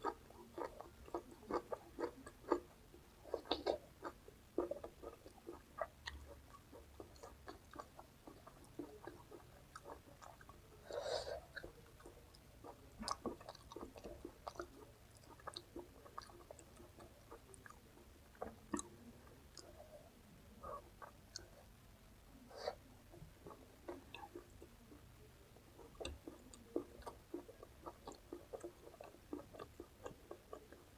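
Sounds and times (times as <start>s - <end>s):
person chewing food: 0.0s - 20.0s, 20.6s - 21.7s, 22.6s - 30.9s.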